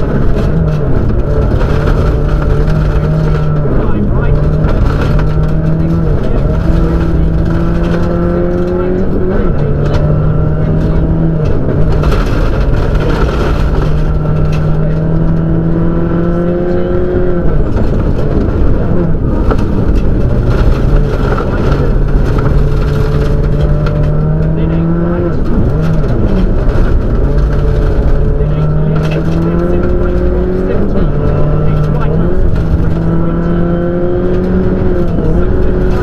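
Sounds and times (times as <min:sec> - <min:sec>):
car engine revving with gear changes: 0:00.0 - 0:36.0
gravel road noise: 0:00.0 - 0:36.0.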